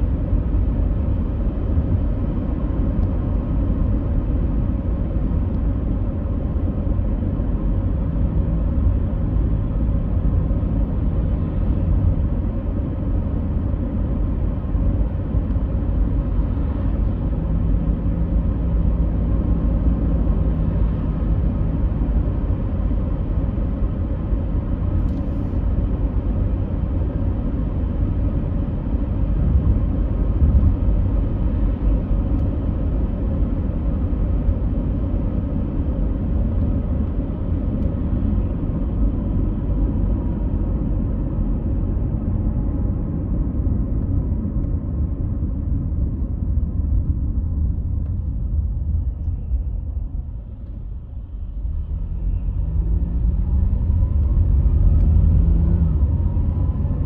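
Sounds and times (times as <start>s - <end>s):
deep rumble: 0.0s - 57.0s.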